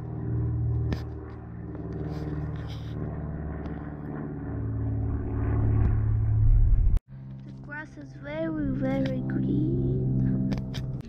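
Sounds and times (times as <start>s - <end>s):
airplane drone overhead: 0.0s - 11.0s.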